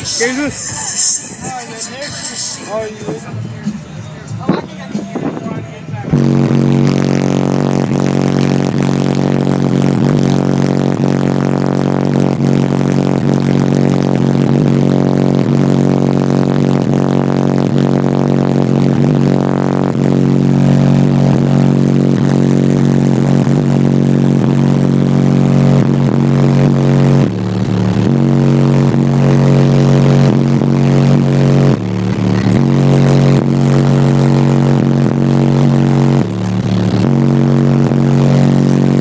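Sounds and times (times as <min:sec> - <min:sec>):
subwoofer bass tone drone: 0:00.0 - 0:39.0.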